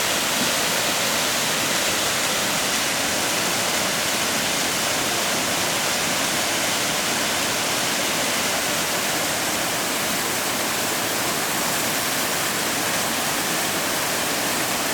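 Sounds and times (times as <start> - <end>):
rushing waterfall and river: 0.0 - 14.9.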